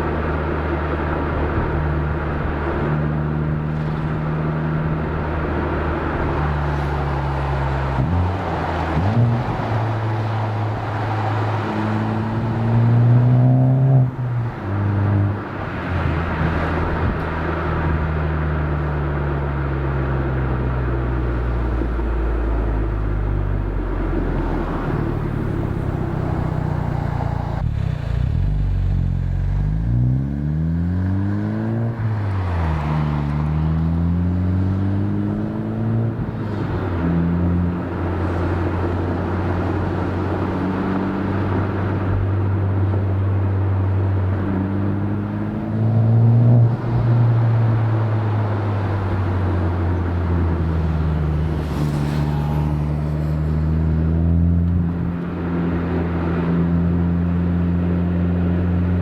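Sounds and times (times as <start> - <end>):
car exhaust while driving: 0.0 - 59.0.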